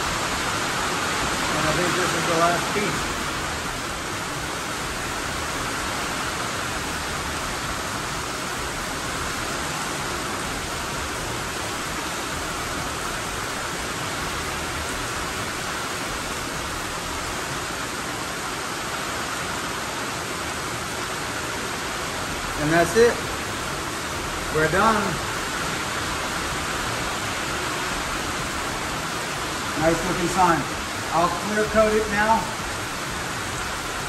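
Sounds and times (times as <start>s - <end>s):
rain on roof: 0.0s - 34.0s.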